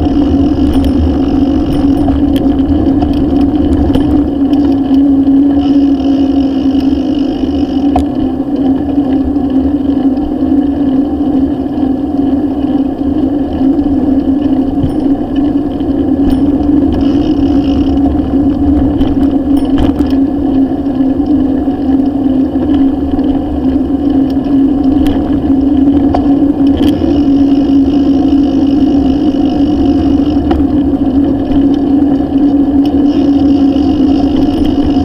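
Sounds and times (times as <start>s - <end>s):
bike clicks and rattles: 0.0s - 35.0s
bike tyre rumble on asphalt: 0.0s - 35.0s
wind on microphone: 0.0s - 35.0s.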